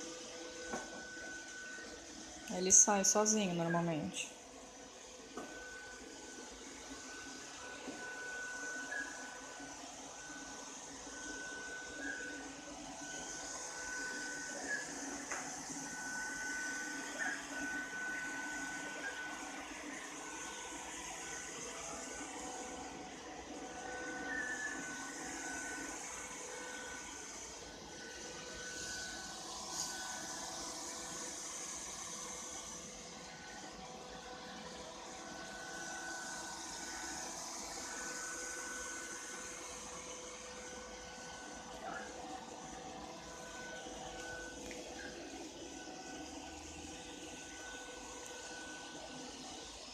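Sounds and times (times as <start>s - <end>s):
robot vacuum cleaner whine: 0.0s - 49.9s.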